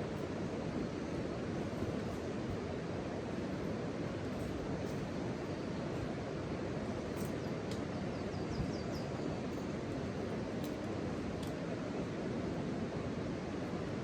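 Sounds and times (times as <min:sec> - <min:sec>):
steady outdoor rushing noise: 0:00.0 - 0:14.0.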